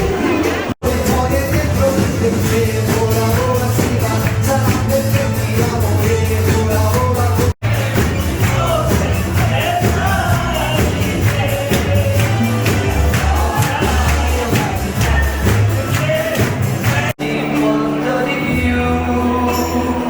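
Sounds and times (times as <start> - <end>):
pop song with singing: 0.0 - 20.0.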